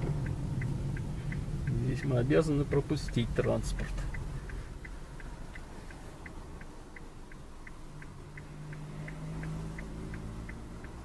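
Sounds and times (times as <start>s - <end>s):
car engine hum: 0.0s - 11.0s
turn signal ticking: 0.0s - 11.0s.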